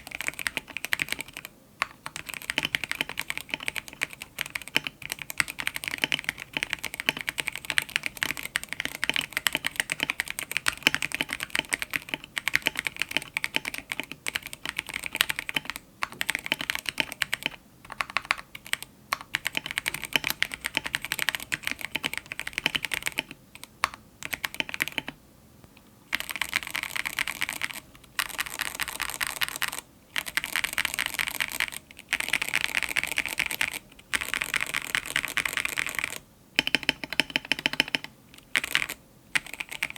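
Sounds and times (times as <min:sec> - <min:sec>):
fast mechanical keyboard typing: 0:00.0 - 0:25.2, 0:26.1 - 0:39.9.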